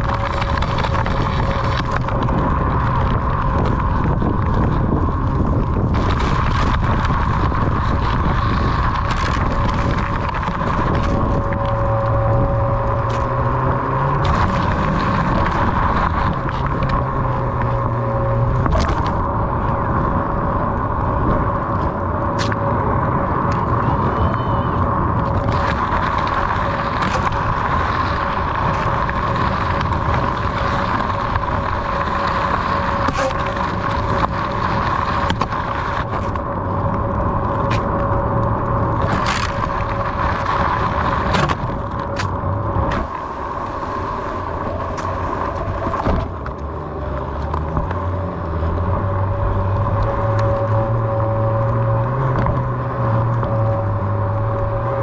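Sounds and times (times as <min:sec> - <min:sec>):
electric hub motor whining: 0:00.0 - 0:55.0
tyre rumble: 0:00.0 - 0:55.0
wind: 0:00.0 - 0:55.0.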